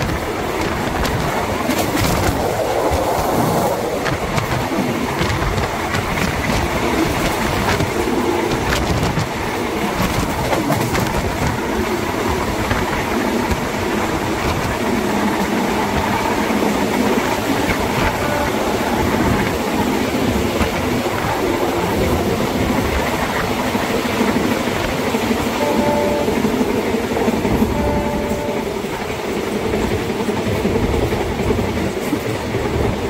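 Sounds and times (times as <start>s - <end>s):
train wheels rumbling on rail: 0.0s - 33.0s
wheels clacking over rail joints: 0.0s - 33.0s.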